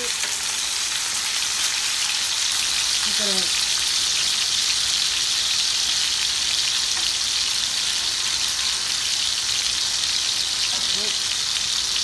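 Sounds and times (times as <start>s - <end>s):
steaks sizzling in oil: 0.0s - 12.0s.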